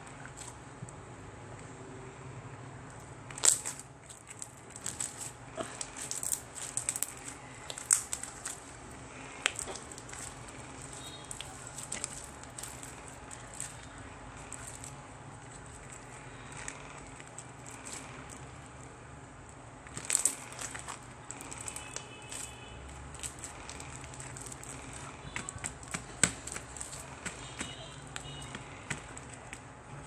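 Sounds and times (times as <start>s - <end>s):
slime crackling and popping: 3.2s - 29.7s.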